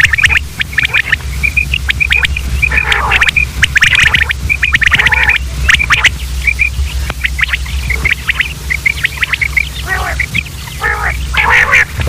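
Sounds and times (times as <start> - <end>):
quail calling: 0.0 - 12.0
steady low hum: 0.0 - 12.0.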